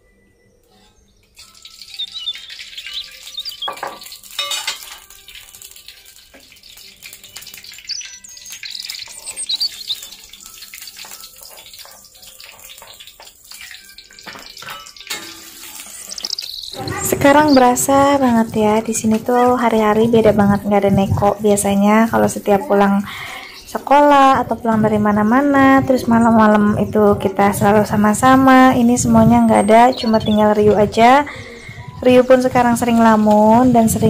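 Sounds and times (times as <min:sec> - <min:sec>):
oil sizzling in wok: 0:01.2 - 0:34.0.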